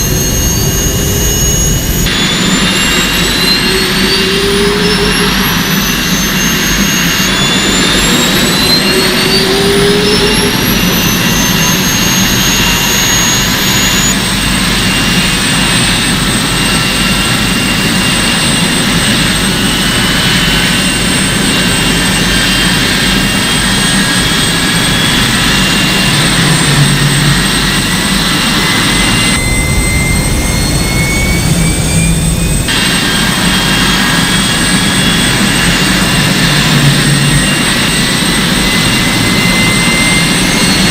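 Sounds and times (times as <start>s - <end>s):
jet engine turbine whine: 0.0s - 40.9s.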